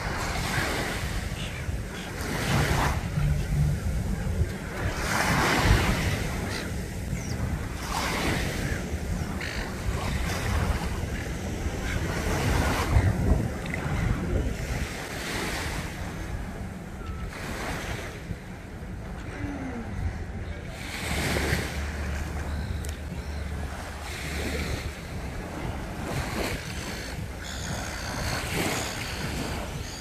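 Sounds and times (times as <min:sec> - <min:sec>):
waves washing on sandy beach: 0:00.0 - 0:30.0
wind rumbling on microphone: 0:00.0 - 0:30.0.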